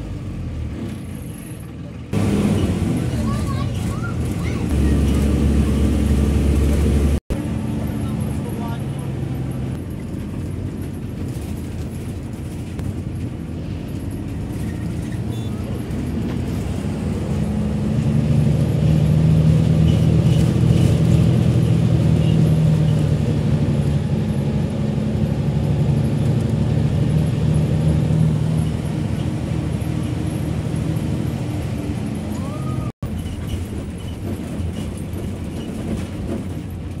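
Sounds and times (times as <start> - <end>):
bus engine drone: 0.0 - 37.0
road noise: 0.0 - 37.0.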